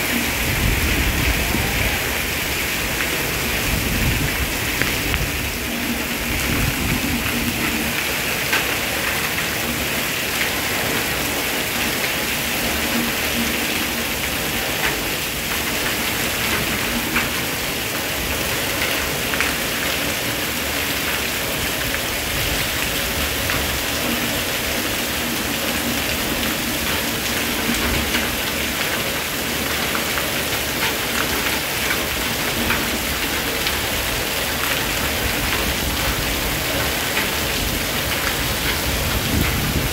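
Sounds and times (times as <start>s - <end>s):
heavy rain on roofs and paving: 0.0s - 39.9s.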